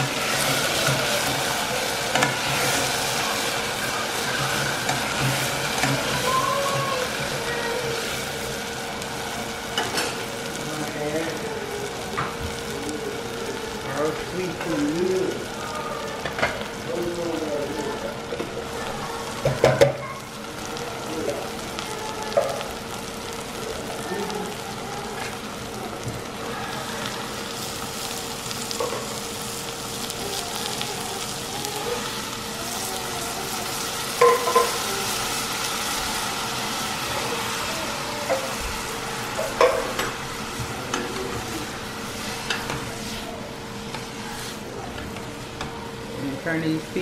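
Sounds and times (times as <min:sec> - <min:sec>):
food sizzling in hot fat: 0:00.0 - 0:47.0.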